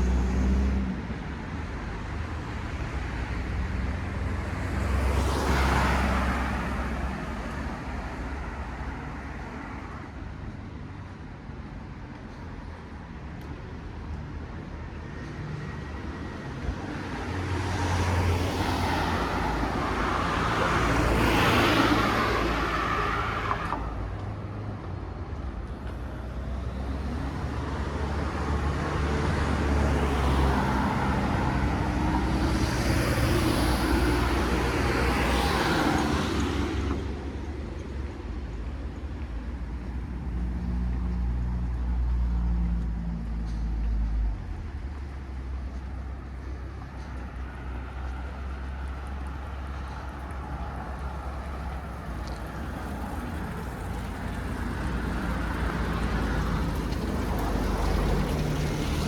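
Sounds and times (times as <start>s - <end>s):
cars passing: 0.0s - 10.8s, 13.8s - 59.0s.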